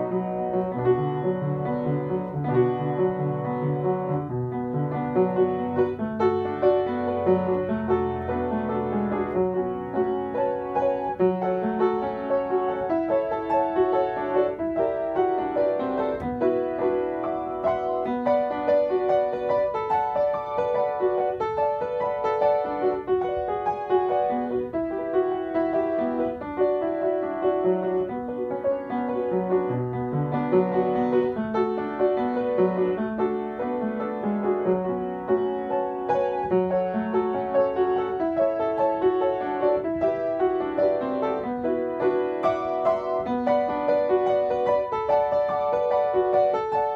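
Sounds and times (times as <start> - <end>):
upright piano playing quick notes: 0.0 - 46.9.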